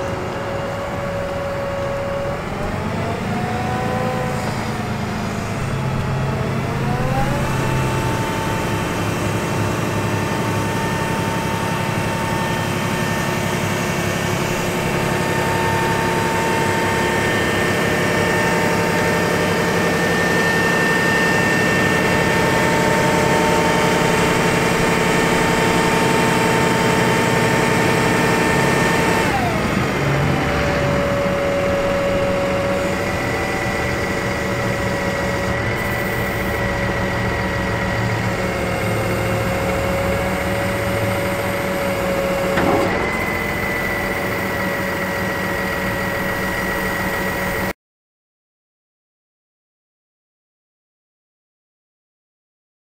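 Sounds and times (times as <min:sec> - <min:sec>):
truck engine and hydraulics running: 0:00.0 - 0:47.7.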